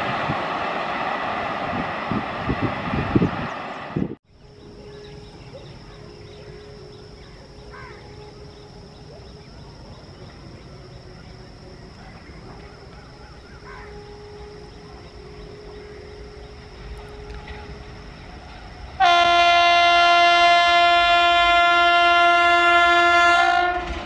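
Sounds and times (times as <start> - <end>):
distant train rumble: 0.0 - 24.0.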